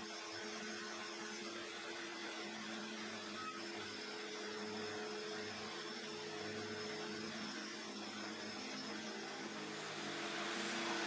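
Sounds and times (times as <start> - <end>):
shop vacuum running: 0.0 - 11.0.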